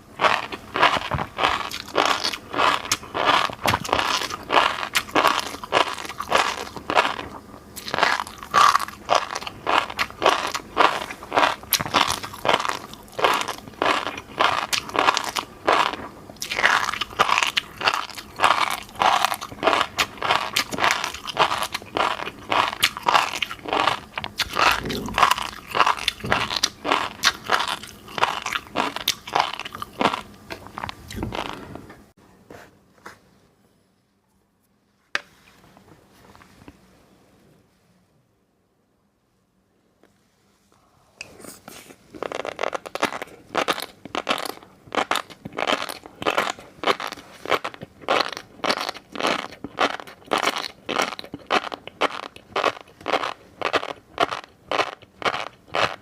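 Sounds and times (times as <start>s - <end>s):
crunchy chewing of fish roe: 0.0s - 31.8s, 41.2s - 56.0s.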